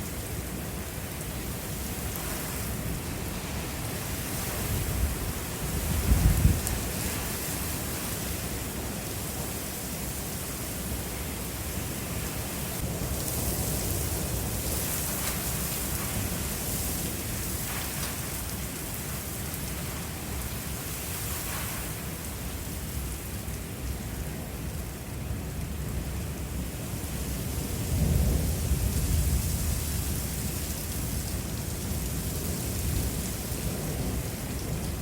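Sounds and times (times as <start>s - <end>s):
wind noise: 0.0s - 23.0s, 26.9s - 35.0s
steady rain: 0.0s - 35.0s.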